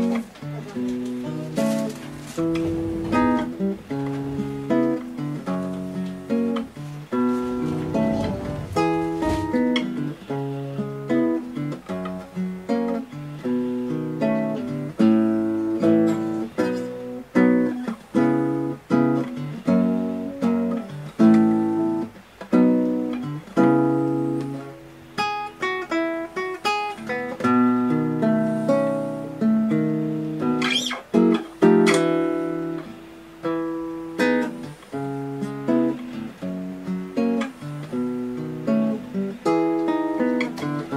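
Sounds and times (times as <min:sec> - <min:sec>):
acoustic guitar picking: 0:00.0 - 0:40.9.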